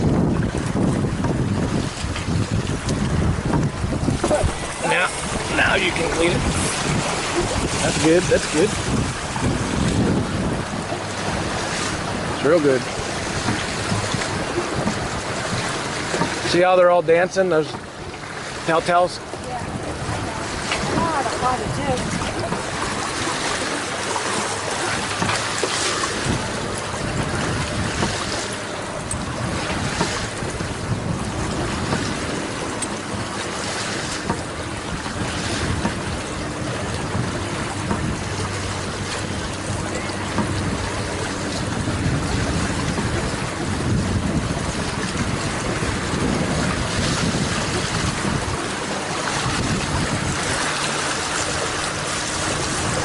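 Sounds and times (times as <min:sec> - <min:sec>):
water rushing past hull: 0:00.0 - 0:53.0
wind buffeting microphone: 0:00.0 - 0:53.0.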